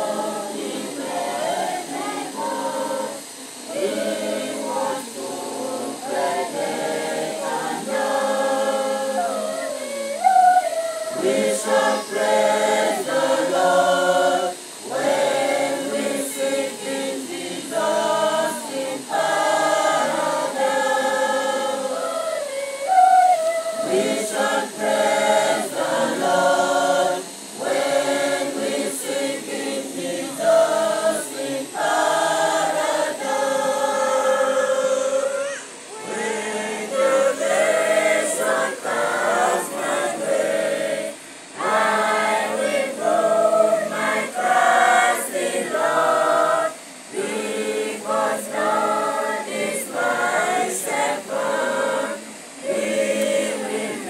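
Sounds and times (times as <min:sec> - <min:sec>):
children's choir singing: 0:00.0 - 0:54.0.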